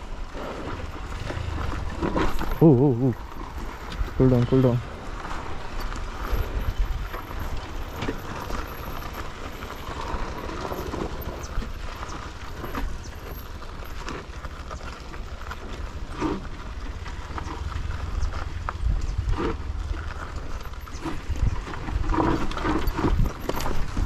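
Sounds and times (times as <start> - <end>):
motorcycle engine running low: 0.0 - 24.0
wheels knocking over stones: 0.0 - 24.0.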